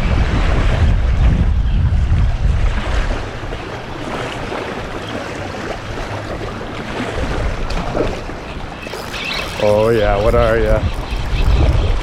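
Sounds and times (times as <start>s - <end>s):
waves churning and splashing: 0.0s - 12.0s
wind buffeting microphone: 0.0s - 12.0s.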